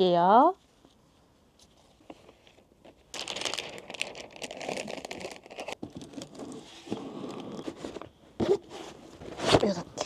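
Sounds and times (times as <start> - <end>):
paper and cardboard rustling: 1.6 - 10.0.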